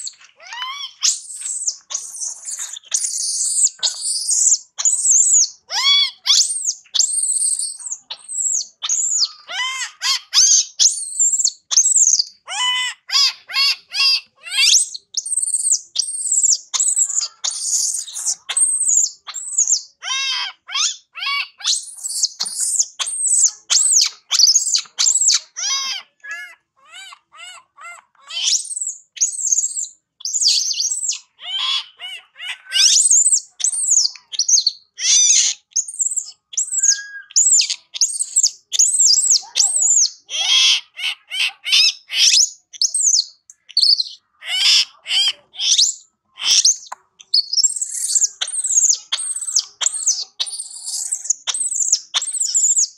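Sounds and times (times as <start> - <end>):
baby monkey screaming: 0.0 - 52.9.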